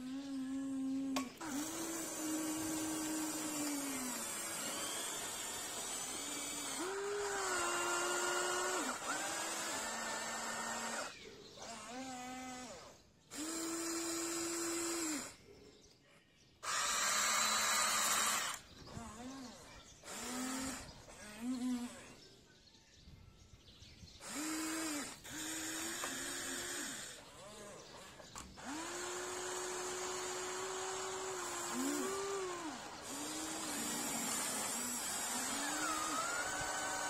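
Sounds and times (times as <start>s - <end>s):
electric motors whining: 0.0s - 15.4s, 16.6s - 22.2s, 24.2s - 37.0s.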